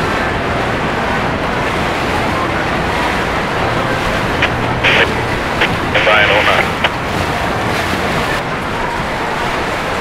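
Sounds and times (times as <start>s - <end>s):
motorboat passing: 0.0s - 10.0s.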